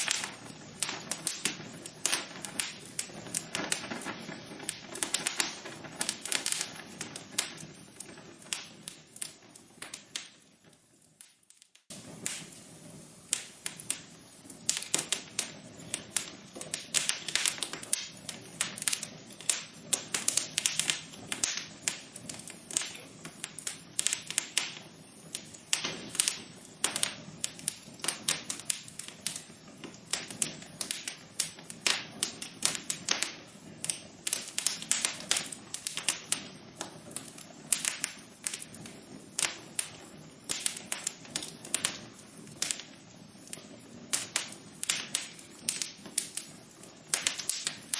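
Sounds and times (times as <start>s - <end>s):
faint steady hiss: 0.0s - 47.9s
wood fire crackling: 0.0s - 47.9s.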